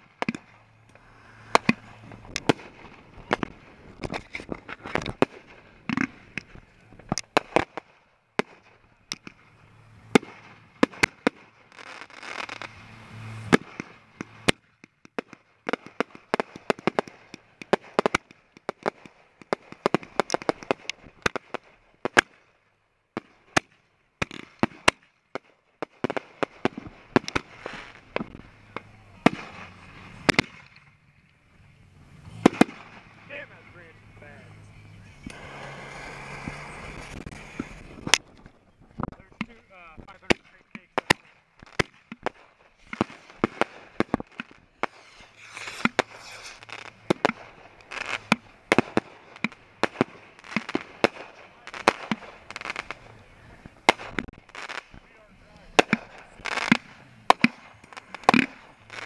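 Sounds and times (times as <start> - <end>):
fireworks bangs and pops: 0.0 - 59.0
fireworks crackling: 0.0 - 59.0.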